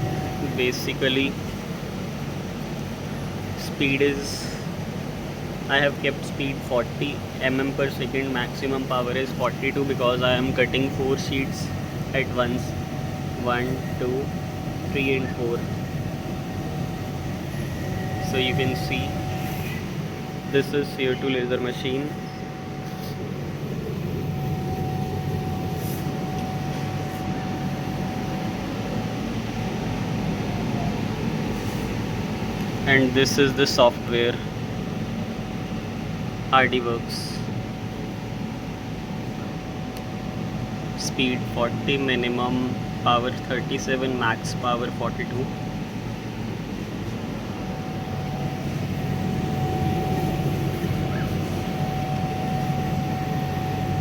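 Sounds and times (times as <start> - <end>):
laser cutter humming: 0.0 - 54.0.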